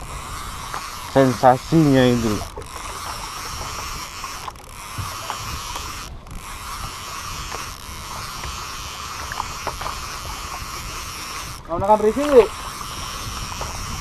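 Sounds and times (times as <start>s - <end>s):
fishing reel ticking: 0.0s - 14.0s
water: 0.0s - 14.0s
wind: 0.0s - 14.0s.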